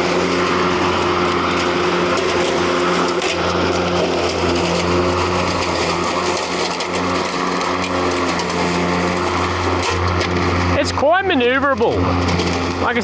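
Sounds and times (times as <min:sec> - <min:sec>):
grass cutting noise: 0:00.0 - 0:13.0
mower motor hum with whine: 0:00.0 - 0:13.0.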